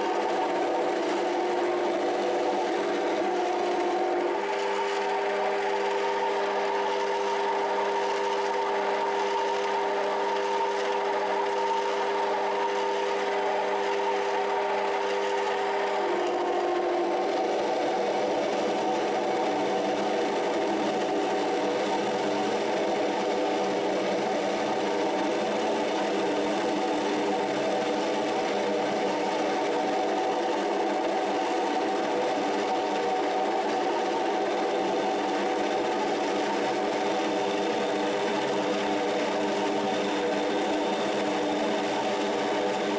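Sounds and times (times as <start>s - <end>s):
metal lathe motor whine: 0.0s - 42.9s.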